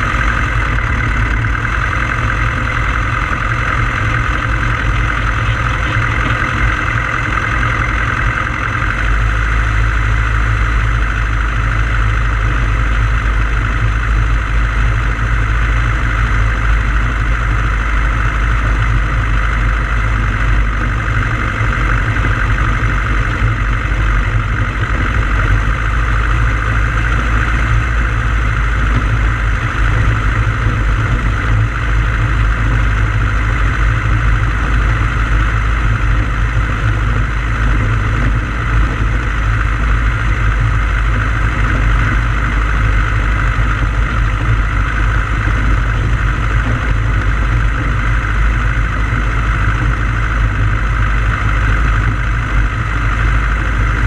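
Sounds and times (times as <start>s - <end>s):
light aircraft engine running: 0.0s - 54.0s.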